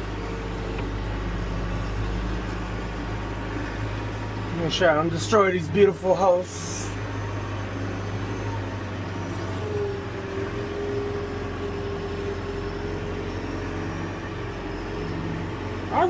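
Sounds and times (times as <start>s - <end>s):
diesel engine running: 0.0s - 16.0s
steady whine: 0.0s - 16.0s.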